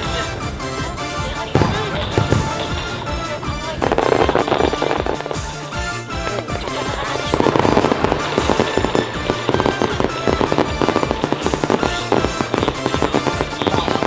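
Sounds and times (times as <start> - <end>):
fireworks bursts and crackling: 0.0 - 14.0
music playing: 0.0 - 14.0.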